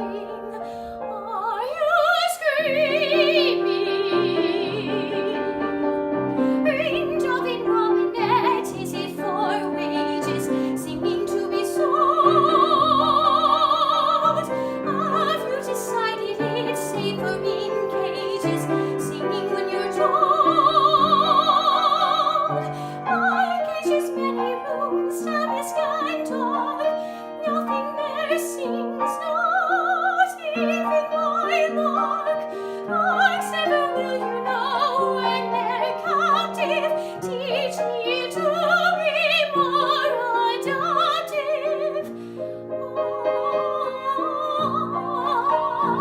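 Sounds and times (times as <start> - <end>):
piano accompaniment: 0.0 - 46.0
soprano singing with vibrato: 0.0 - 46.0.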